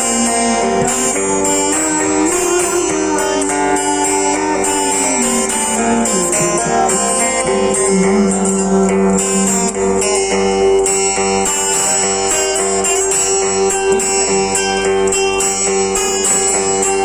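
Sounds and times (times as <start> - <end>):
guitar playing: 0.0 - 17.0.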